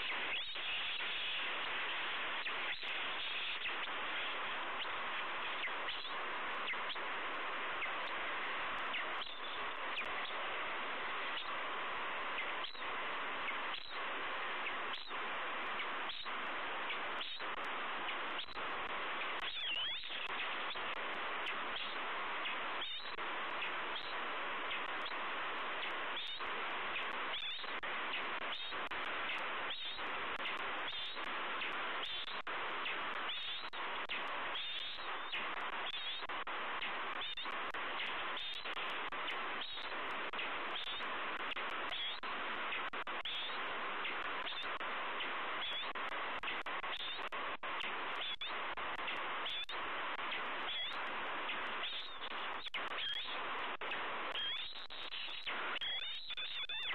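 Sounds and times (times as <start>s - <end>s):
high bird chirps: 0.0s - 1.4s, 2.4s - 7.0s, 8.8s - 10.4s, 12.3s - 14.0s, 14.6s - 18.6s, 19.2s - 25.2s, 25.8s - 36.3s, 37.1s - 41.1s, 41.9s - 47.4s, 48.1s - 56.9s
steady rushing noise: 0.0s - 54.4s.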